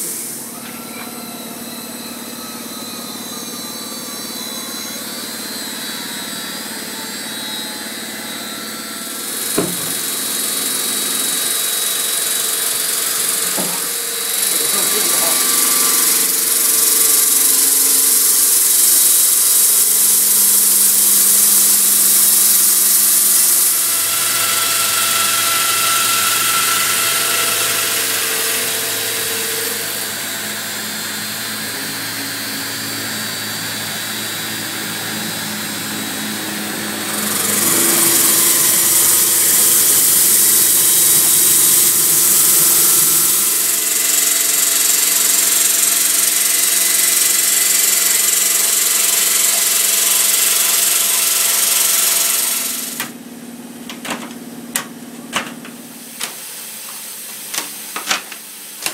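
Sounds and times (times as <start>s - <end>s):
stone cutter hissing: 0.0s - 53.2s
motor hum: 0.0s - 58.9s.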